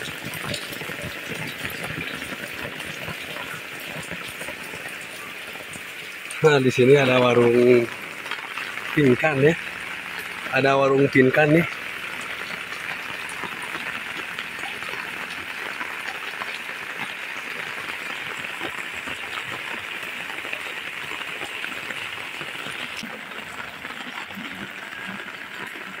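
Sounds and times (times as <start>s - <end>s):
heavy rain on roofs and pavement: 0.0s - 26.0s.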